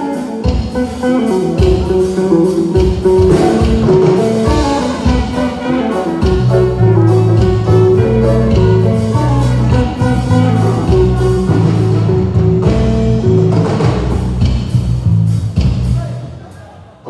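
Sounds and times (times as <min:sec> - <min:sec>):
guitar: 0:00.0 - 0:16.3
drums: 0:00.0 - 0:17.0
loud bass line: 0:01.2 - 0:16.3.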